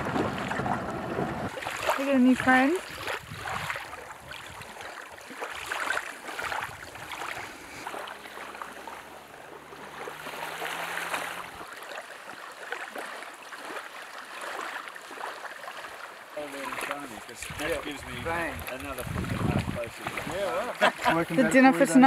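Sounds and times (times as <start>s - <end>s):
small waves lapping on shore: 0.0s - 22.0s.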